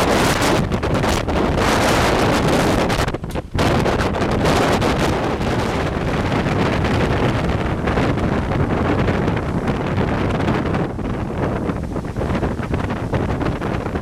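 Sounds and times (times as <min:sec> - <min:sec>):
sea surf: 0:00.0 - 0:14.0
wind buffeting microphone: 0:00.0 - 0:14.0.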